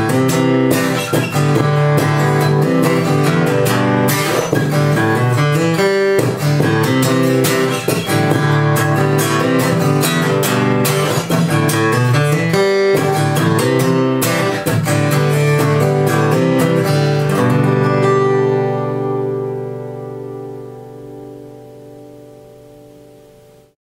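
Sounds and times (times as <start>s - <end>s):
acoustic guitar chords: 0.0s - 23.8s.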